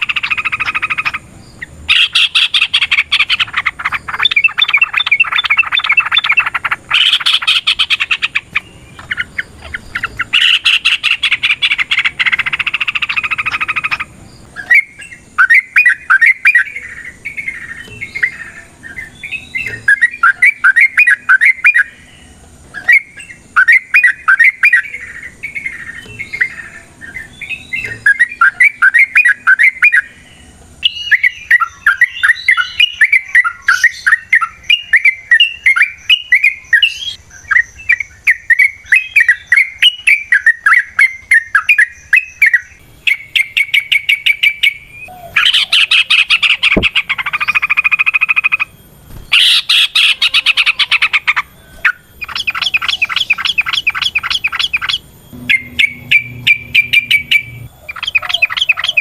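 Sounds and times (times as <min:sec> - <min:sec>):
bird singing chattering notes: 0:00.0 - 0:59.0.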